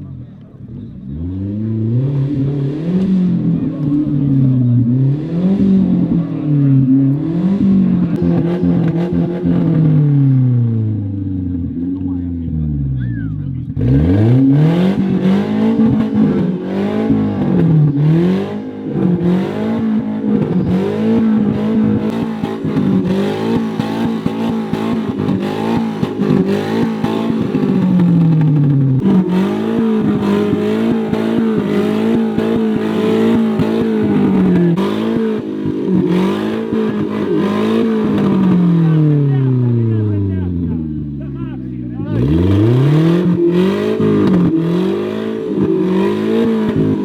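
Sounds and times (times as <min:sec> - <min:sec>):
engine revving: 0:00.0 - 0:47.0.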